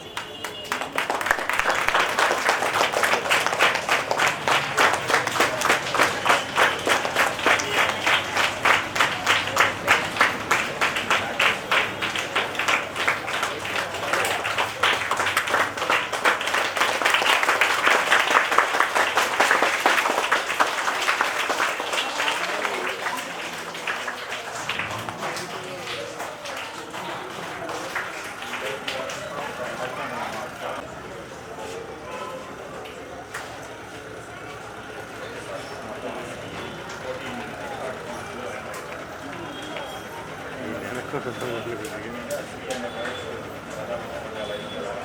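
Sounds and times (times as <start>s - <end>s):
crowd clapping in rhythm: 0.0s - 30.8s, 32.8s - 45.0s
applause: 0.0s - 30.9s, 32.3s - 45.0s.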